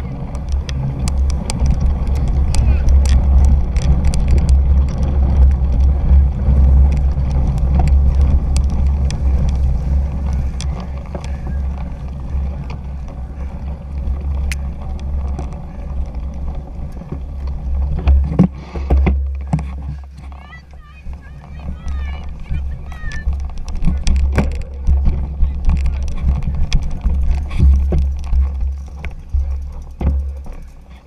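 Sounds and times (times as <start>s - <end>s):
bike clicks and rattles: 0.0s - 31.0s
bike tyres rumbling on grass: 0.0s - 31.0s
wind buffeting microphone: 0.0s - 31.0s.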